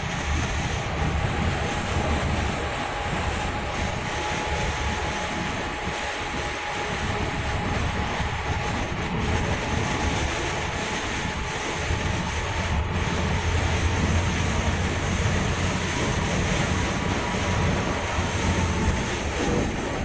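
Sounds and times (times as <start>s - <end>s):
low engine hum: 0.0s - 20.0s
rain and tyre spray hiss: 0.0s - 20.0s.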